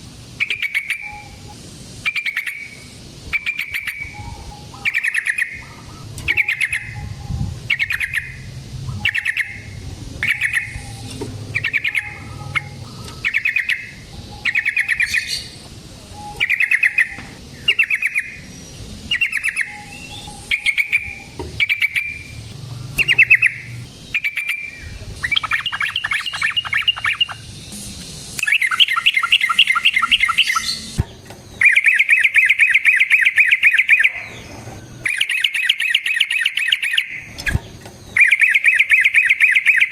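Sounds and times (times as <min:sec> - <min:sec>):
bird calling: 0:00.0 - 0:27.6, 0:28.4 - 0:39.9.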